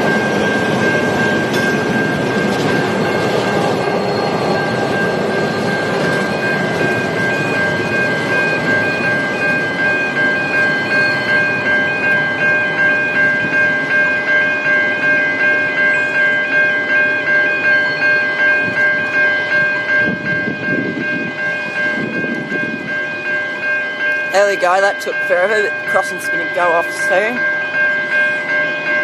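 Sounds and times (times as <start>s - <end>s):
diesel train rumbling: 0.0s - 29.0s
level crossing bell ringing: 0.0s - 29.0s.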